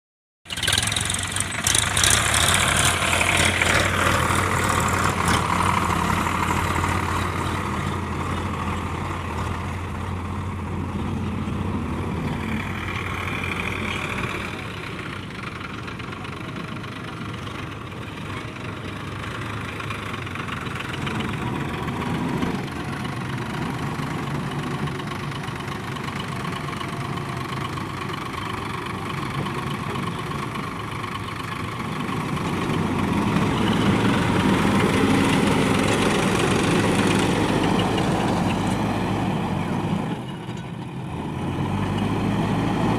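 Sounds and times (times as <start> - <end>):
diesel engines running: 0.5 - 42.9.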